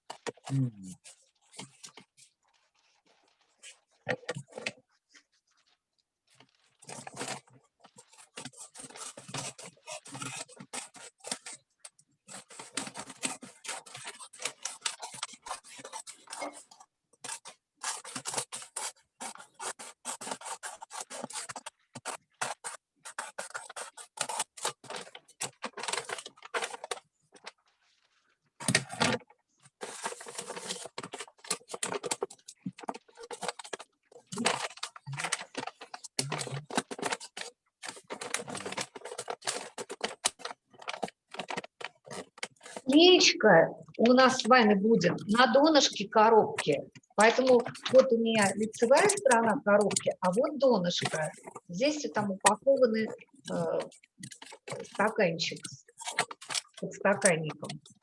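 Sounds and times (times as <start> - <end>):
wrapping paper rustling and crackling: 0.0 - 58.0.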